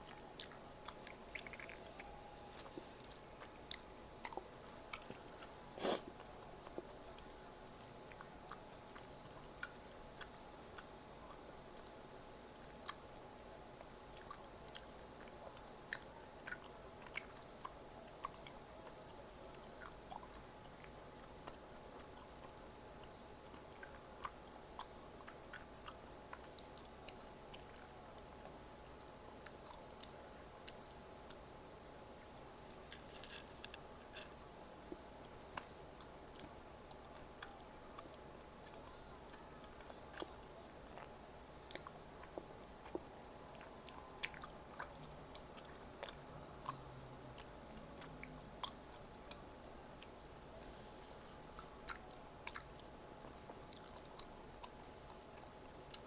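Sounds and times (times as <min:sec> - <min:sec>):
chewing food: 0:00.0 - 0:13.2, 0:13.8 - 0:31.5, 0:32.1 - 0:50.2, 0:51.3 - 0:56.0.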